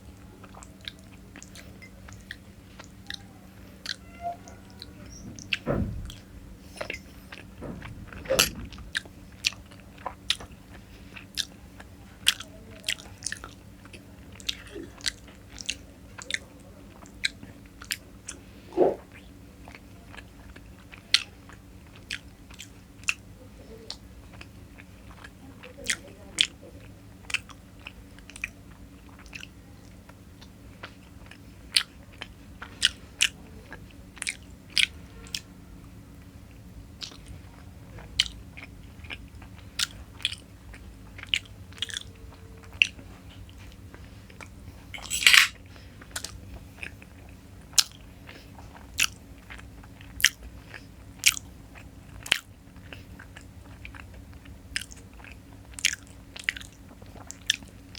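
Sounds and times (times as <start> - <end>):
faint low hum: 0.0 - 57.9
person chewing with mouth clicks: 0.2 - 4.0, 6.8 - 23.3, 23.9 - 35.5, 36.5 - 57.9.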